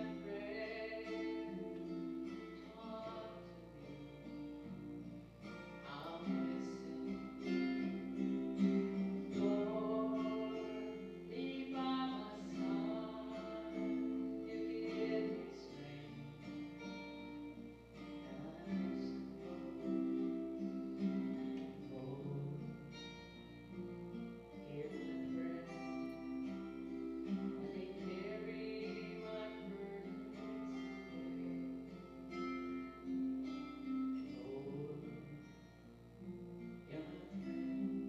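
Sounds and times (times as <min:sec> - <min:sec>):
person singing: 0:00.0 - 0:04.3, 0:05.6 - 0:17.4, 0:18.1 - 0:22.9, 0:23.7 - 0:35.5, 0:36.8 - 0:38.0
guitar accompaniment: 0:00.0 - 0:38.0.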